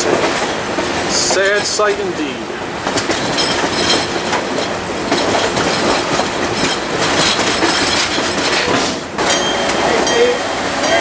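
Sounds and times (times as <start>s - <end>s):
train wheels clickety-clack: 0.0s - 11.0s.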